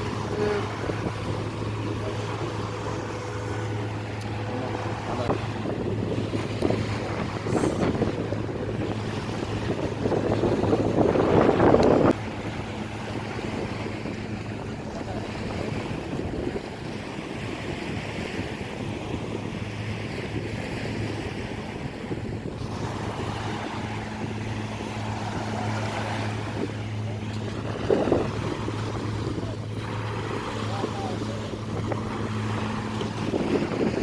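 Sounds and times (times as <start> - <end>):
boat engine humming: 0.0 - 34.0
rushing water: 0.0 - 34.0
wind buffeting microphone: 0.0 - 34.0.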